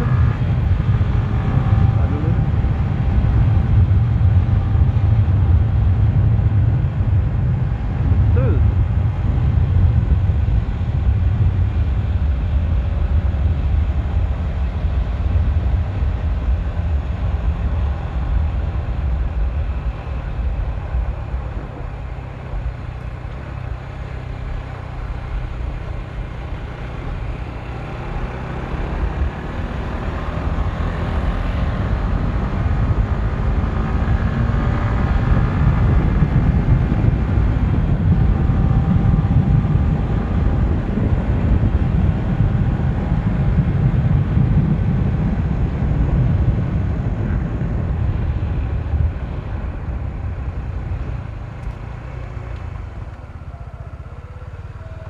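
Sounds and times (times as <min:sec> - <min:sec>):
wind buffeting microphone: 0:00.0 - 0:29.5, 0:35.0 - 0:55.0
motorcycle engine running hard: 0:00.0 - 0:55.0.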